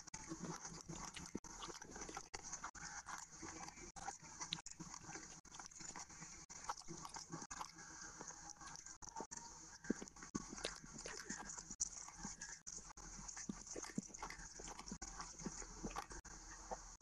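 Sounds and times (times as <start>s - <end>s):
food squelching when handled: 0.0s - 16.9s
chewing and wet mouth smacking: 0.1s - 16.8s.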